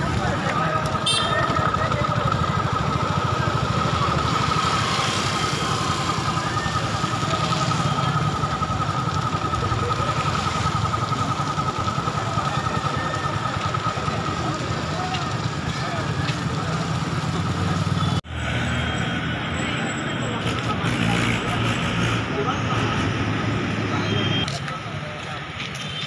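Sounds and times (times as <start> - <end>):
vehicle engine low rumble: 0.0 - 26.0.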